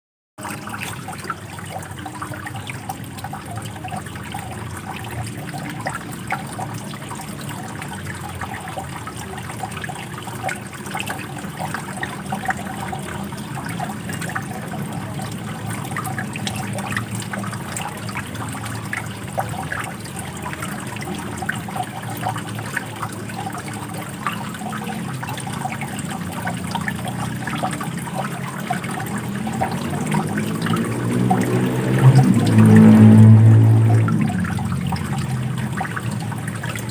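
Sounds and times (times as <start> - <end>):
water trickling and splashing: 0.4 - 36.9.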